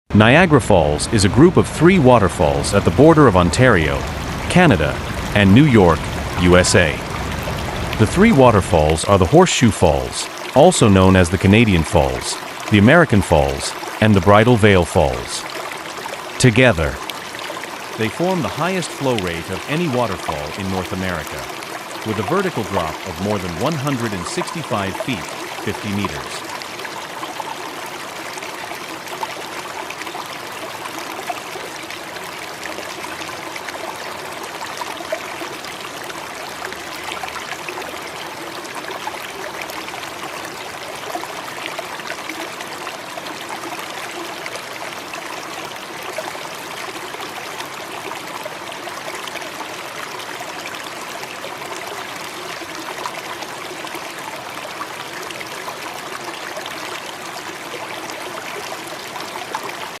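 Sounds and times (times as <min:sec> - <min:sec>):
rushing water: 0:00.1 - 1:00.0.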